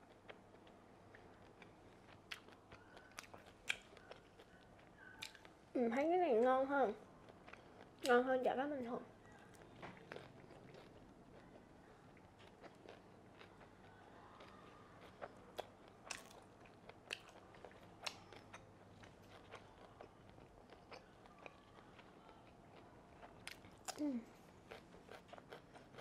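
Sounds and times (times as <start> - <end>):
faint chewing: 0.0 - 8.3, 9.1 - 26.0.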